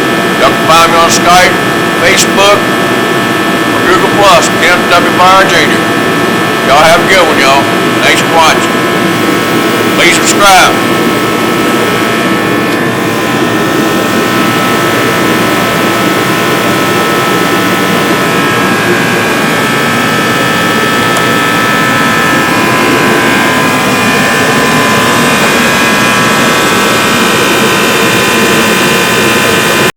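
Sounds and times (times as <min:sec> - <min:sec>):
heater fan and burner rushing: 0:00.0 - 0:29.9
high whine: 0:00.0 - 0:29.9.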